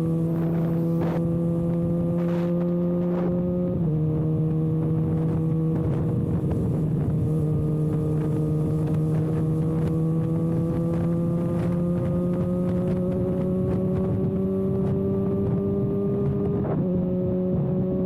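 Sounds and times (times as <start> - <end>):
motorcycle engine accelerating: 0.0 - 18.0
wind noise on microphone: 0.0 - 18.0.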